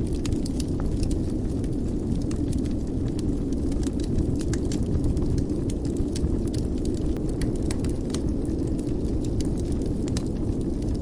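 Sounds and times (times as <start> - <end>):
fire crackling and popping: 0.0 - 11.0
fire low rumble: 0.0 - 11.0.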